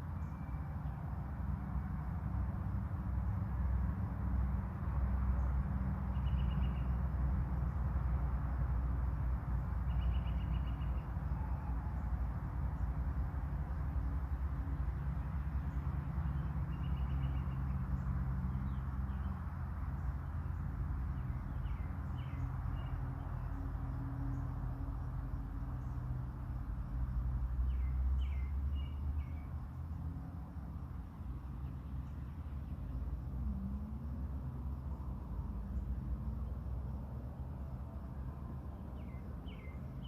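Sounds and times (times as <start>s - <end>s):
songbird chirping: 0.0s - 2.6s, 4.8s - 8.4s, 9.0s - 40.0s.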